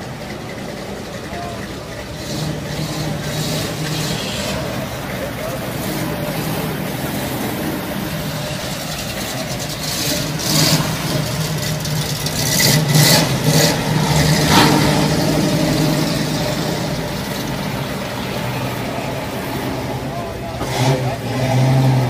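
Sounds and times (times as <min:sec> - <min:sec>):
car engine running: 0:00.0 - 0:21.4.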